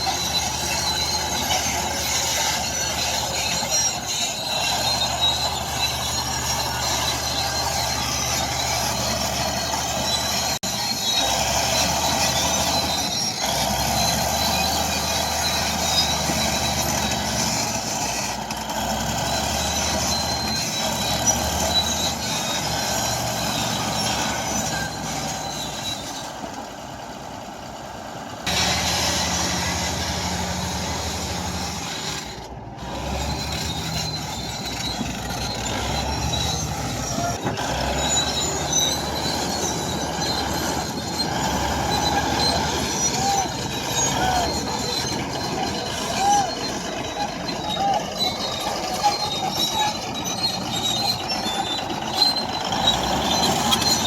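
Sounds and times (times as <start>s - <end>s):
short high squeaks: 0.0s - 26.6s, 28.5s - 54.0s
heavy machinery diesel engines: 0.0s - 54.0s.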